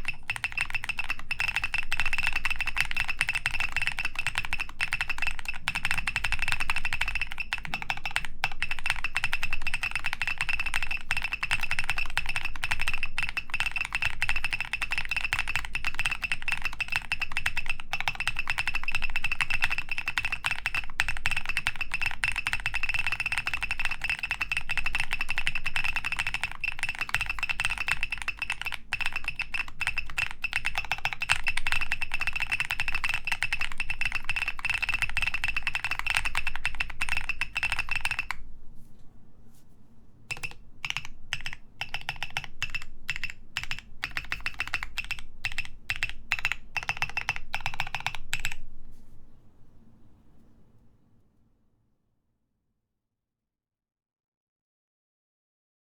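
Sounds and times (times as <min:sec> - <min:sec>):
mechanical keyboard typing: 0:00.0 - 0:38.4, 0:40.3 - 0:48.6.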